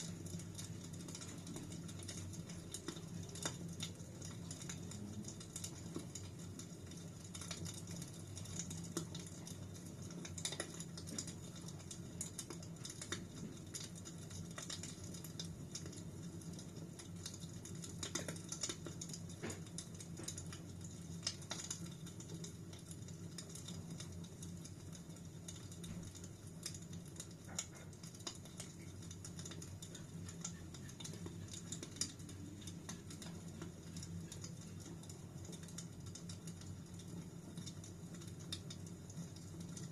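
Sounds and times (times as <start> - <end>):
fire crackling and popping: 0.0 - 39.9
low sound of burning: 0.0 - 39.9.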